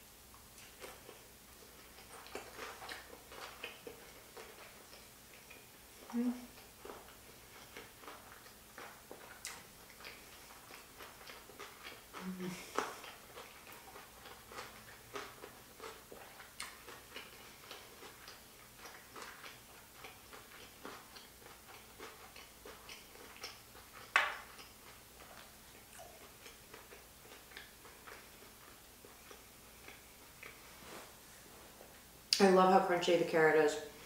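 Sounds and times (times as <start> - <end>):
crunchy chewing: 0.3 - 31.0.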